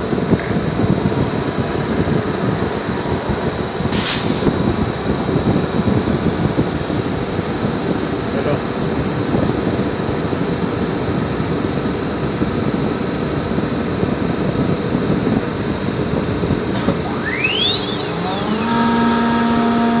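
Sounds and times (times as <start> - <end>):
cnc router running: 0.0 - 20.0
spindle whine: 0.0 - 20.0.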